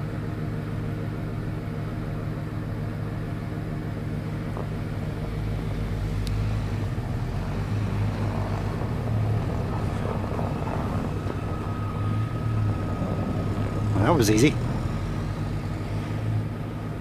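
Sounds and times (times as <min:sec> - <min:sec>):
car engine under load: 0:00.0 - 0:17.0.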